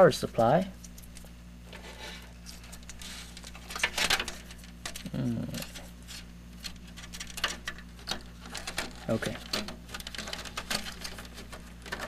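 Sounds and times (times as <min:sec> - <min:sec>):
steady low hum: 0:00.0 - 0:12.0
cables rustling: 0:00.4 - 0:12.0.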